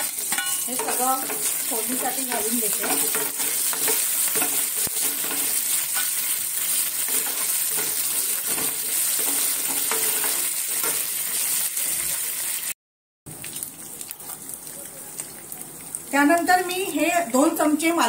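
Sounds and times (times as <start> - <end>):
spices sizzling in hot oil: 0.0 - 18.0.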